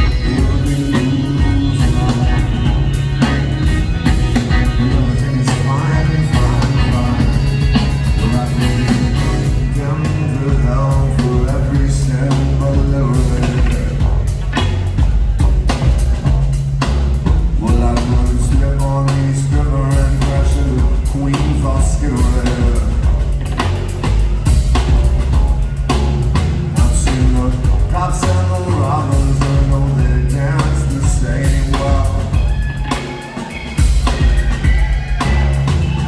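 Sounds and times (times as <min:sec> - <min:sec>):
bass line: 0:00.0 - 0:36.0
drums beating: 0:00.0 - 0:36.0
electric guitar: 0:00.0 - 0:36.0.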